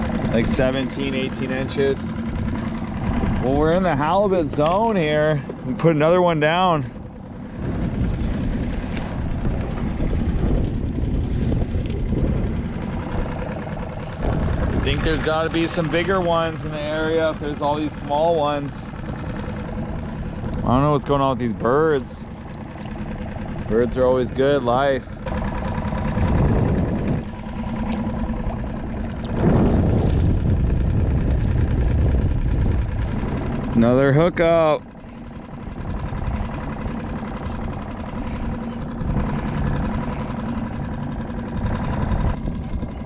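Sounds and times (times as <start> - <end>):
outboard motor idling: 0.0 - 43.0
wind buffeting microphone: 0.0 - 43.0.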